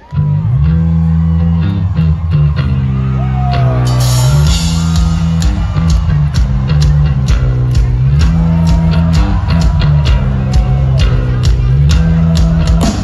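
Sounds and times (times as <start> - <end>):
electric bass guitar riff: 0.0 - 13.0.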